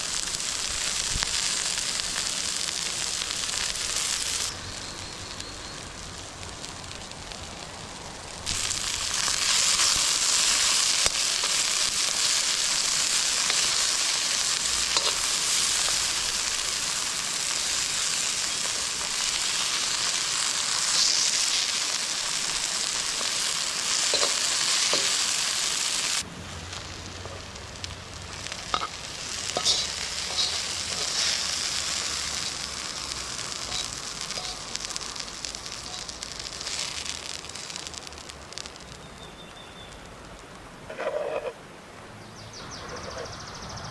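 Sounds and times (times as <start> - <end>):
food sizzling in a pan: 0.0 - 41.5
crackles and pops: 0.0 - 41.6.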